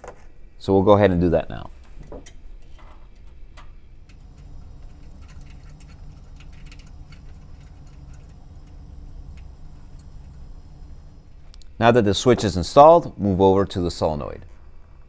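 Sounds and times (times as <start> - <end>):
low steady hum: 1.2 - 15.0.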